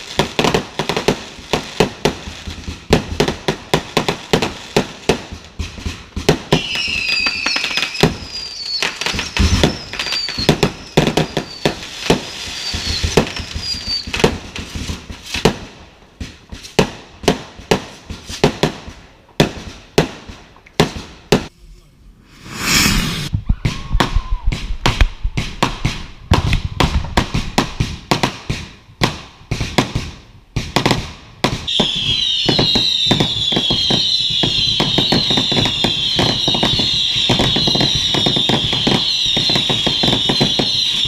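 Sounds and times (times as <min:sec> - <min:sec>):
fireworks bangs and crackles: 0:00.0 - 0:21.5, 0:22.4 - 0:41.0.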